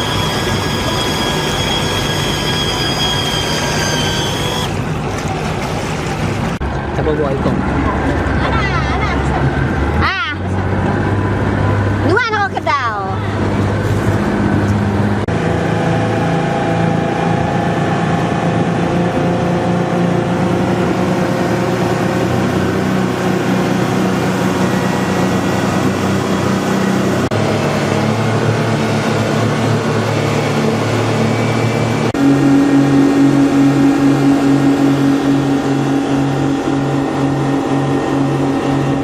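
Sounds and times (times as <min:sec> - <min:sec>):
outboard motor running: 0:00.0 - 0:39.0.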